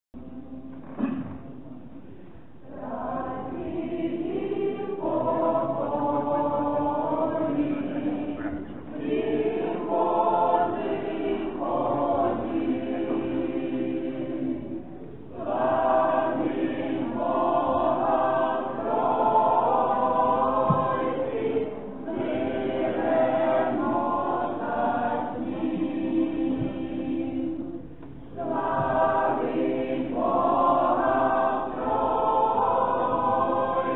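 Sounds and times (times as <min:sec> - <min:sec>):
choir chanting unaccompanied: 0:02.6 - 0:33.9.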